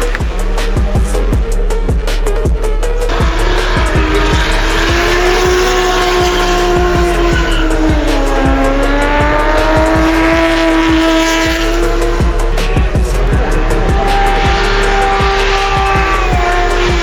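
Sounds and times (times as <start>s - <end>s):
car engine at high revs: 0.0s - 17.0s
music track: 3.0s - 17.0s
tyres squealing: 3.1s - 17.0s.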